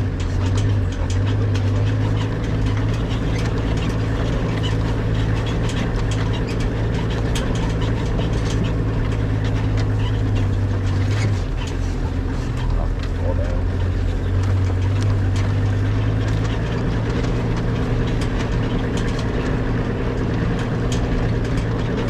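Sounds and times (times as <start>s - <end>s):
light clicks and rattles: 0.0s - 22.0s
vehicle engine running: 0.0s - 22.0s.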